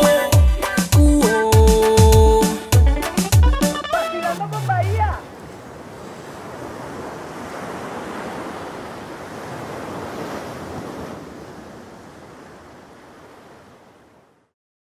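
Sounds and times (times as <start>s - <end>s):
ocean surf washing: 0.0s - 14.5s.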